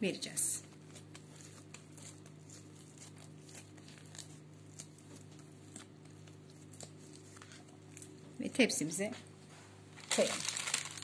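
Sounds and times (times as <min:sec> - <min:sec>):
steady low hum: 0:00.0 - 0:11.0
wet hands shaping dough: 0:00.0 - 0:11.0.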